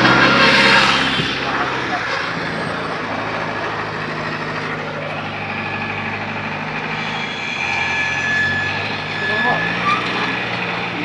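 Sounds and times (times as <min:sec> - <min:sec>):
heavy diesel engine running: 0:00.0 - 0:11.0
steady high whine: 0:00.0 - 0:11.0.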